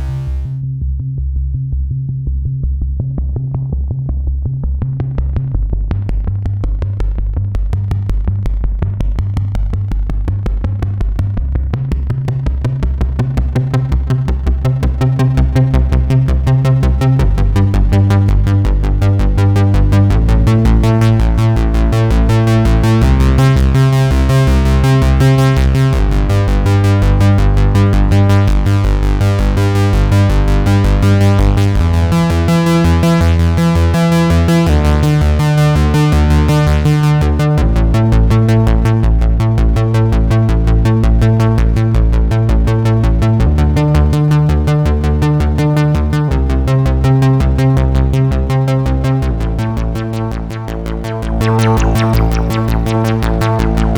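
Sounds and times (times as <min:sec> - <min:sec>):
pulsing synthesizer bass pattern: 0:00.0 - 0:53.9.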